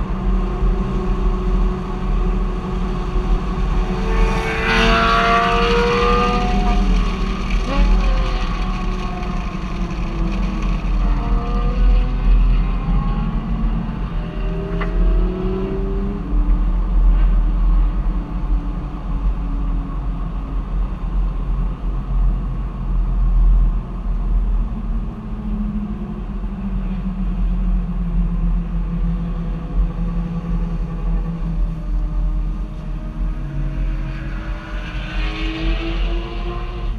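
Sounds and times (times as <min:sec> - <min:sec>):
road rumble: 0:00.0 - 0:36.9.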